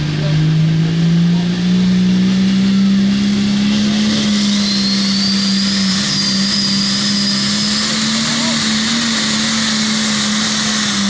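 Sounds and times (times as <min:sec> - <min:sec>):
diesel engine running under load: 0:00.0 - 0:11.0
high turbo whine: 0:00.0 - 0:11.0.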